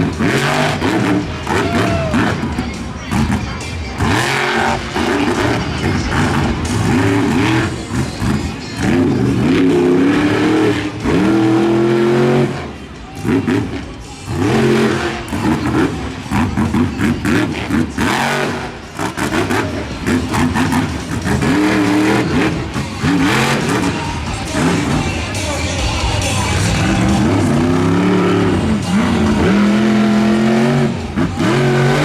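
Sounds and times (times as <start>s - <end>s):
truck engine revving: 0.0s - 32.0s.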